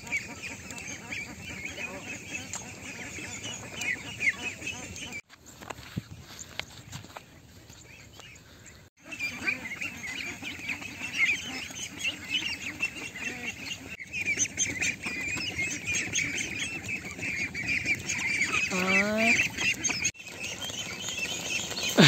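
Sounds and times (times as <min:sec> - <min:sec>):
ducks quacking: 0:00.0 - 0:05.2, 0:08.5 - 0:22.0.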